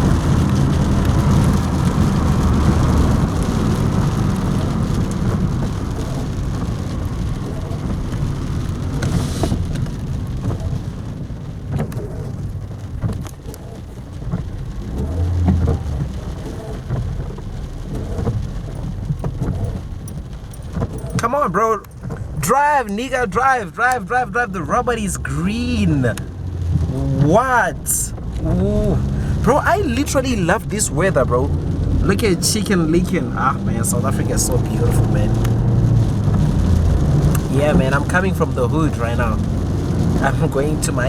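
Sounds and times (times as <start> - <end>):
car engine and tyres rumble: 0.0 - 41.0
rain on car roof and windscreen: 0.0 - 41.0.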